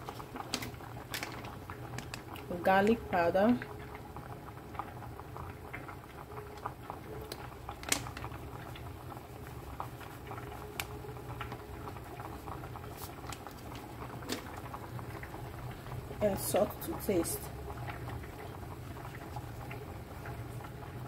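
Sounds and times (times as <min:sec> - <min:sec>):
low steady hum: 0:00.0 - 0:21.0
pot simmering: 0:00.0 - 0:21.0.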